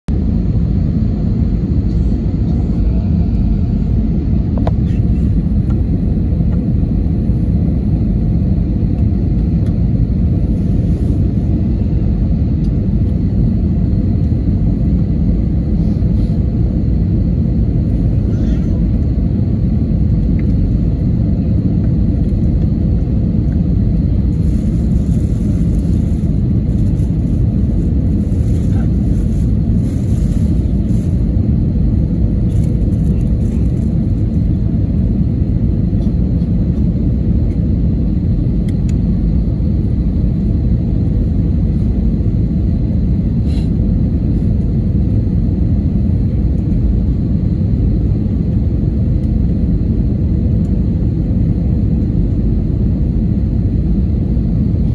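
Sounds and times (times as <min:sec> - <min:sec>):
airplane cabin engine rumble: 0:00.1 - 0:54.9.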